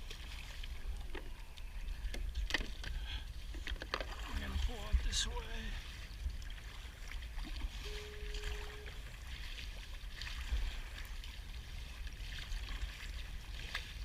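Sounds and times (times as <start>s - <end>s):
paddle strokes splashing water: 0.0s - 14.0s
wind rumble on microphone: 0.0s - 14.0s.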